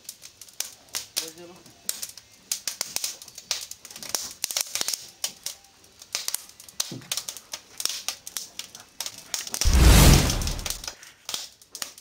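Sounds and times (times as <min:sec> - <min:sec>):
wood fire crackling: 0:01.9 - 0:11.9.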